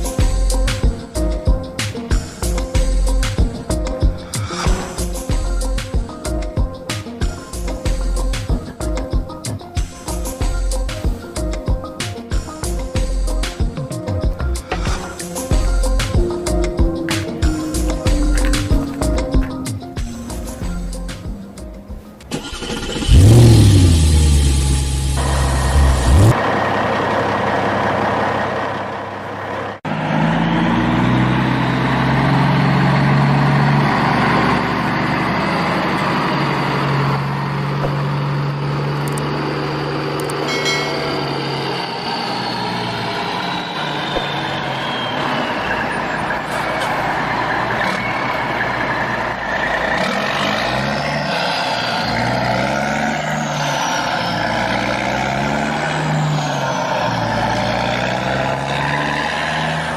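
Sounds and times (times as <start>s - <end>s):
heavy truck engine revving: 7.3s - 59.9s.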